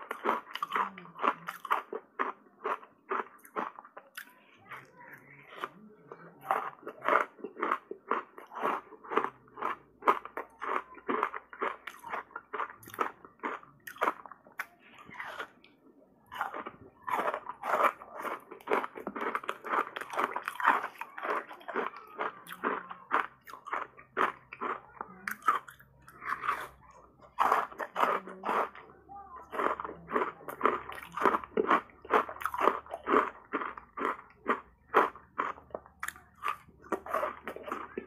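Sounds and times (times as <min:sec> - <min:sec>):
crunching and chewing ice: 0:00.0 - 0:38.0.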